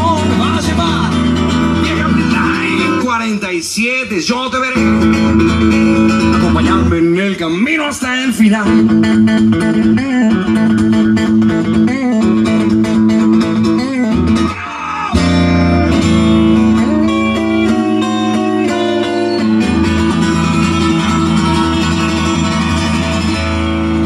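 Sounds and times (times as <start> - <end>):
guitar-led rock music: 0.0 - 24.0.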